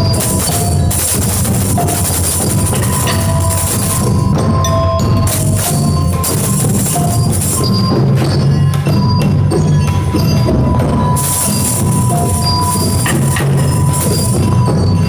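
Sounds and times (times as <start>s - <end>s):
bell-like metallic notes: 0.0s - 15.0s.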